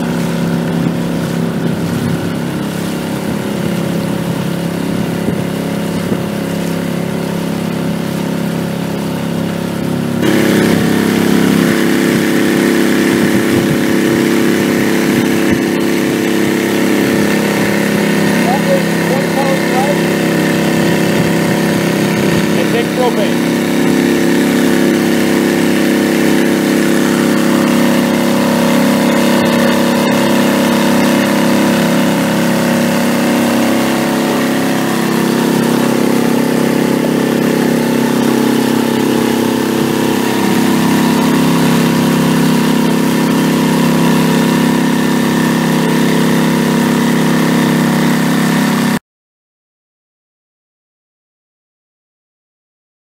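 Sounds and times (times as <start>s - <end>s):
outboard motor running: 0.0s - 49.0s
water rushing along hull: 0.0s - 49.0s.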